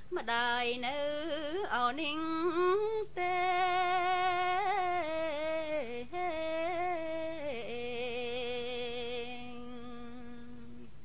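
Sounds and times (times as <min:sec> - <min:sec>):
person chanting a lullaby: 0:00.0 - 0:11.0.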